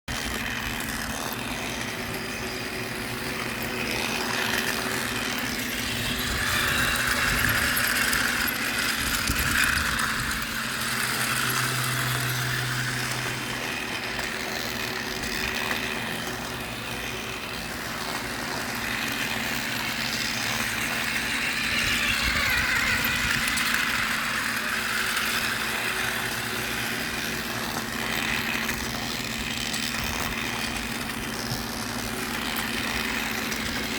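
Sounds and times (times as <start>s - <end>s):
motor hum: 0.1s - 33.9s
rushing mechanical sound: 0.1s - 33.9s.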